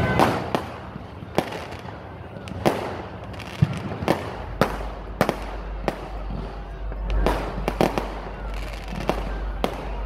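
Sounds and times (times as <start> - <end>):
distant fireworks: 0.0 - 10.0
fireworks bangs overhead: 0.0 - 10.0.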